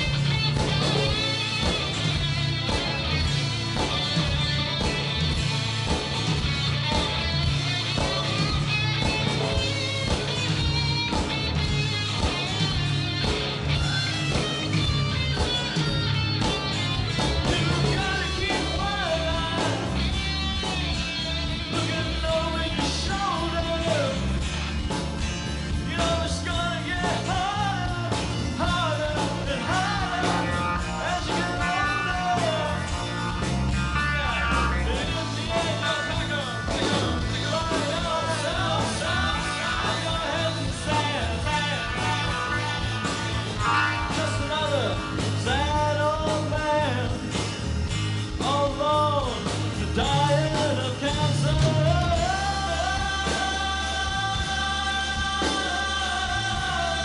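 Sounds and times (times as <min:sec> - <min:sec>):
bending lead guitar melody: 0:00.0 - 0:57.0
rock band playing: 0:00.0 - 0:57.0.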